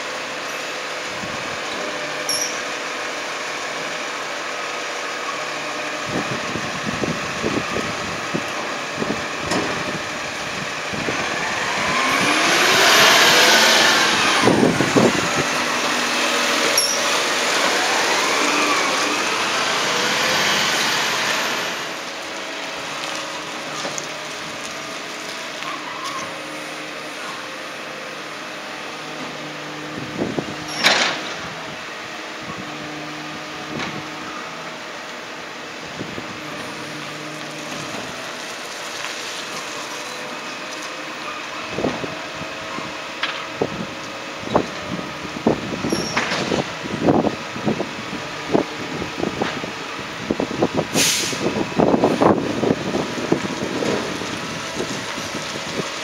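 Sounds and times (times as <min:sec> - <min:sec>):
garbage truck engine revving: 0:01.0 - 0:56.0.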